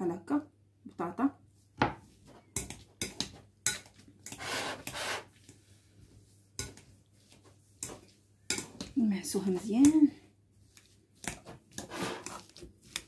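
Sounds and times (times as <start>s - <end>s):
potatoes being mashed: 2.0s - 13.0s.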